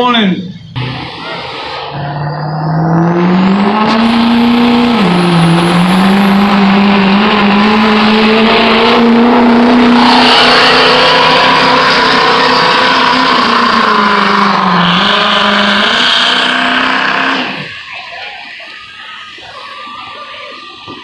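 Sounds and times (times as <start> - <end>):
truck engine revving under load: 0.0 - 18.1
thin high whine: 0.0 - 21.0.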